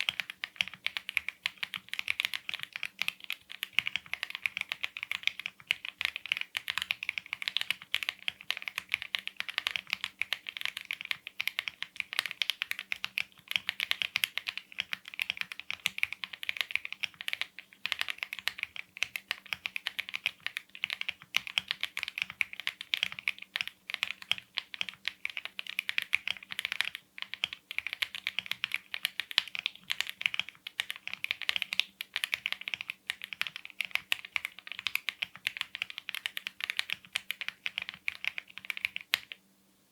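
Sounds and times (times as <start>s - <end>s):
fast mechanical keyboard typing: 0.0s - 39.4s.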